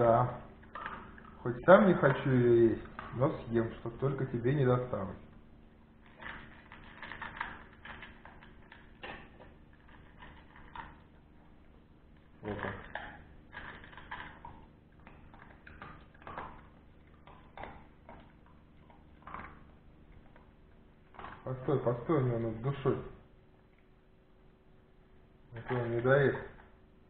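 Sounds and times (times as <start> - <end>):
puppy crunching dry kibble: 0.5 - 24.0, 25.5 - 26.8.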